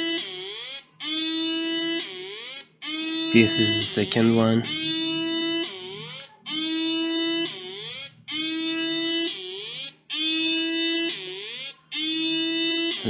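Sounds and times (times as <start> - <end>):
buzzy alarm tone: 0.0 - 13.0
upward swooping alarm tone: 0.0 - 13.0.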